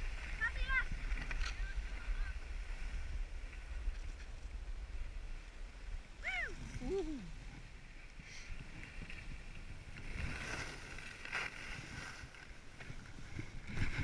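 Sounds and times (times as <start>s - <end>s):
skis sliding through snow: 0.0s - 6.0s, 8.2s - 14.0s
wind rumbling on microphone: 0.0s - 14.0s.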